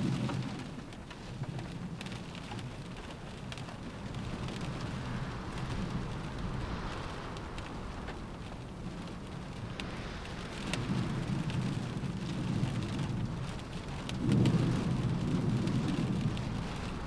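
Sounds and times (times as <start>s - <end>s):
rain pattering on a window: 0.0s - 17.0s
deep rumble: 1.4s - 17.0s.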